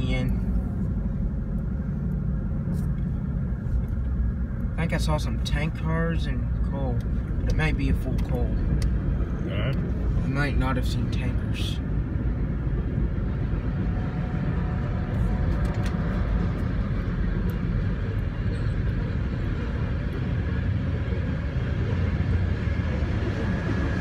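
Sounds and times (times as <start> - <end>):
freight cars rumbling: 0.0 - 24.0.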